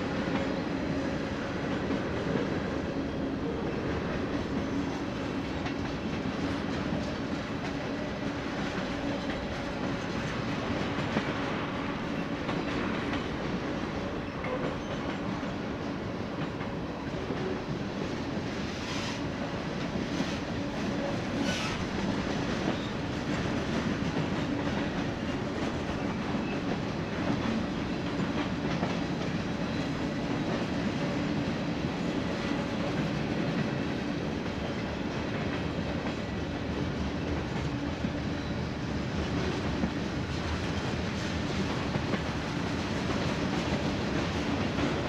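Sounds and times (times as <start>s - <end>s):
freight train wheels on rails: 0.0s - 45.0s.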